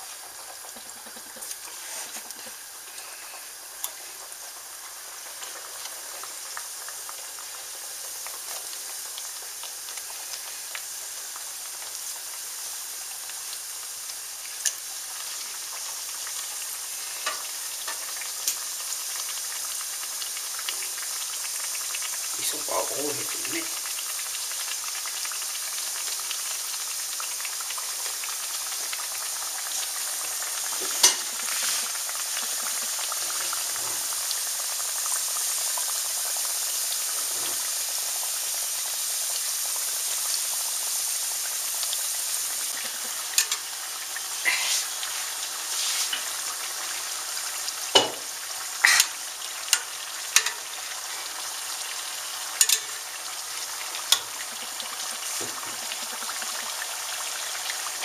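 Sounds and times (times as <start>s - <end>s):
dough sizzling in hot oil: 0.0s - 58.0s.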